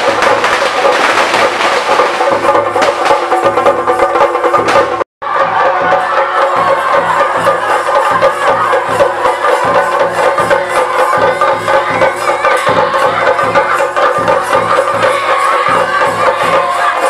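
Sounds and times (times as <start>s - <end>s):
drum beats: 0.0s - 17.0s
rapid cymbal strikes: 0.0s - 17.0s.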